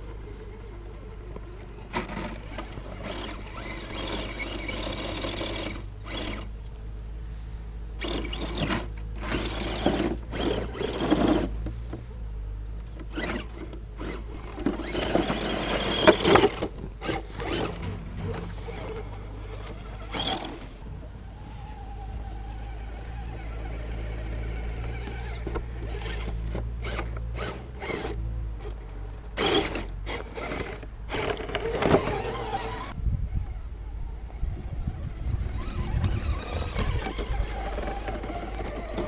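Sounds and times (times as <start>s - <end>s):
faint motor whine: 0.0s - 39.0s
rc truck motor drone: 0.0s - 39.0s.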